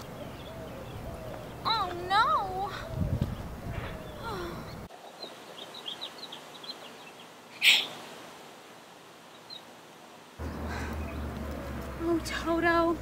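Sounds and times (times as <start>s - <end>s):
small birds chirping: 0.0s - 8.1s, 9.2s - 9.8s, 10.4s - 13.0s.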